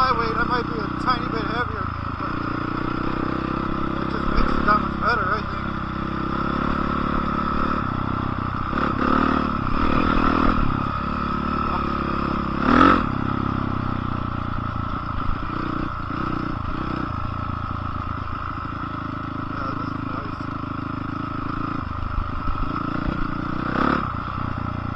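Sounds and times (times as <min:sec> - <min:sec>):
dirt bike engine running: 0:00.0 - 0:24.9.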